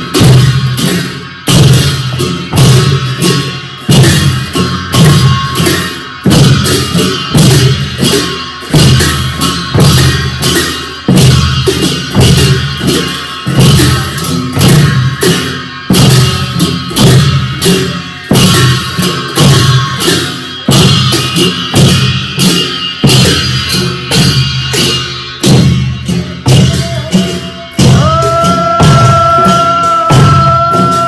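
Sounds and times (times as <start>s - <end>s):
percussion beating steady rhythm: 0.0s - 31.0s.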